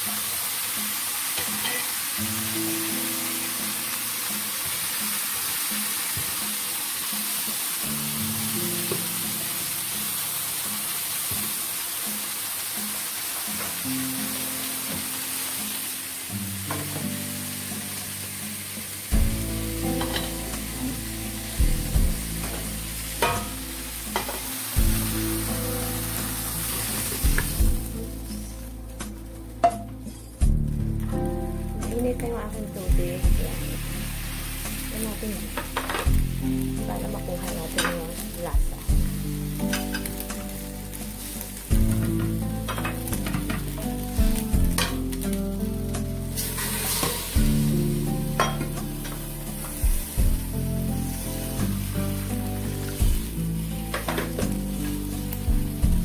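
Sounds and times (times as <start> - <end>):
food sizzling in frying pan: 0.0 - 56.0
soft background music: 0.0 - 56.0.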